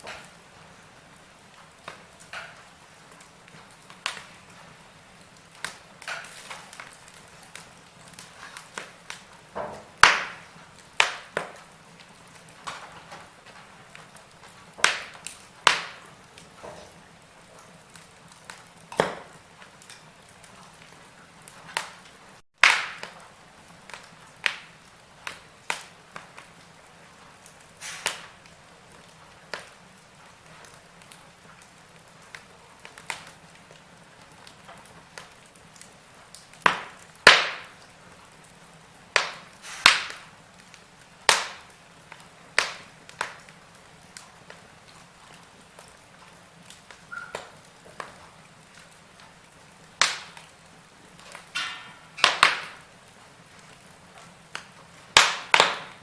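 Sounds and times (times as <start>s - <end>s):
faint steady hiss: 0.0s - 56.0s
wood fire crackling and popping: 0.0s - 56.0s.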